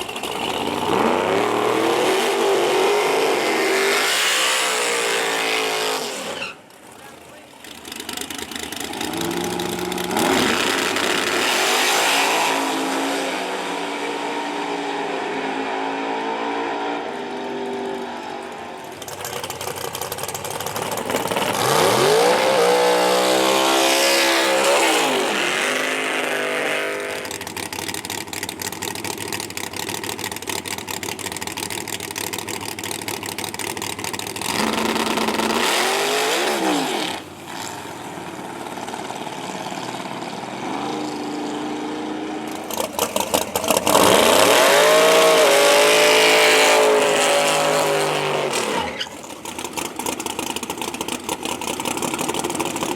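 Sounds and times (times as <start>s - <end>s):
race car engines at full throttle: 0.0s - 52.9s.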